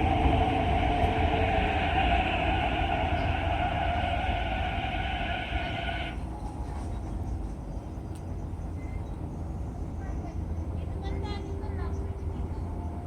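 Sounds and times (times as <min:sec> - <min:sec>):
train low rumble: 0:00.0 - 0:13.0
train mechanical whine: 0:00.0 - 0:13.0.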